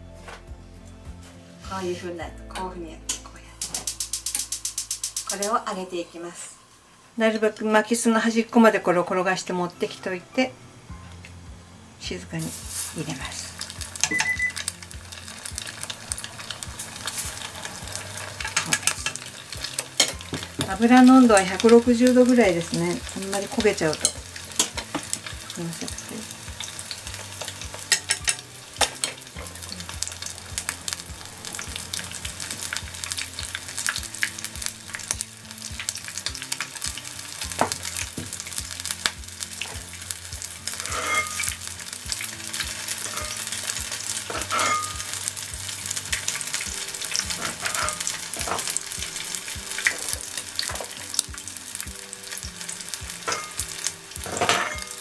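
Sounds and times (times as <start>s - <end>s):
food deep-frying in oil: 3.6s - 6.2s, 12.2s - 55.0s.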